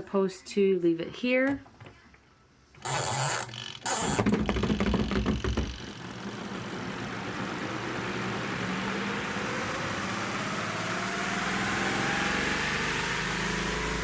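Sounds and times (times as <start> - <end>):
spin dryer motor humming: 2.8 - 14.0.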